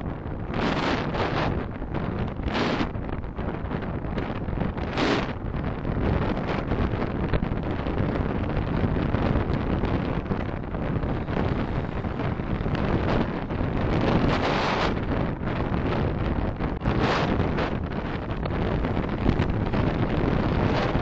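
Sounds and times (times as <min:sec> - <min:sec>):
car wind and road noise: 0:00.0 - 0:21.0.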